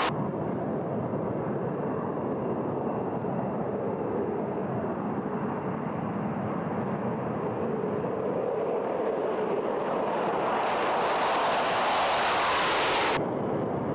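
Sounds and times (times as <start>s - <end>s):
distant jet engine rumble: 0.0s - 13.9s.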